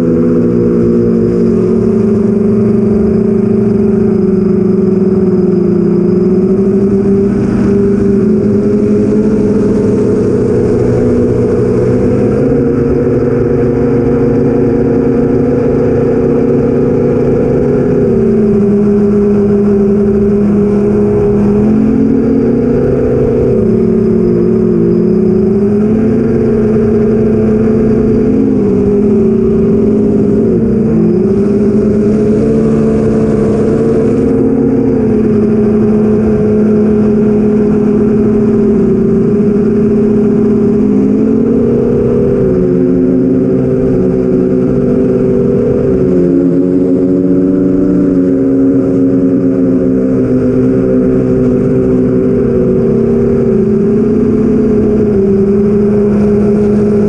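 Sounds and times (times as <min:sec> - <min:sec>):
quadcopter motors humming: 0:00.0 - 0:57.0.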